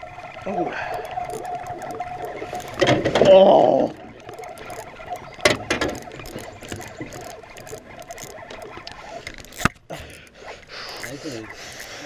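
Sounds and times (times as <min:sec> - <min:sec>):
fishing reel clicking: 0:00.1 - 0:12.0.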